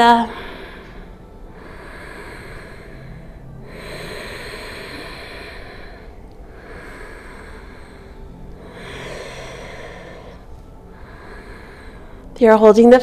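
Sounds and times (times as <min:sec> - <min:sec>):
woman breathing slowly: 0:00.0 - 0:12.7.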